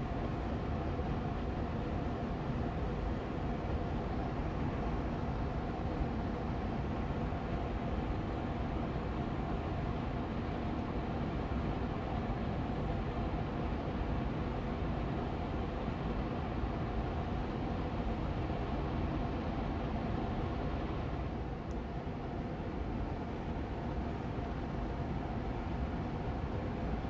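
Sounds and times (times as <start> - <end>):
air purifier fan running: 0.0 - 27.0.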